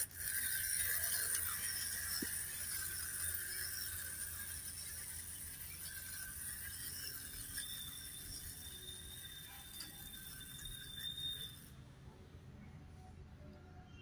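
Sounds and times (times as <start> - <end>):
toy train motor whirring: 0.0 - 12.1
thin steady whine: 0.0 - 14.0.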